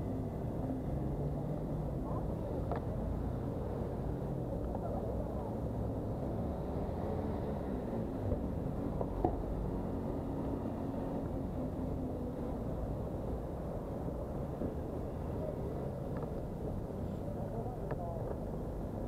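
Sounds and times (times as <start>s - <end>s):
city road traffic rumble: 0.0s - 19.0s.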